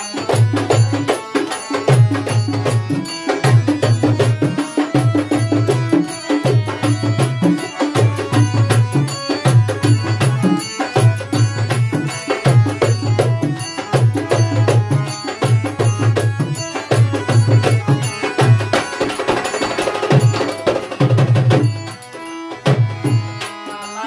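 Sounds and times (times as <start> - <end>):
harmonium chords: 0.0 - 24.0.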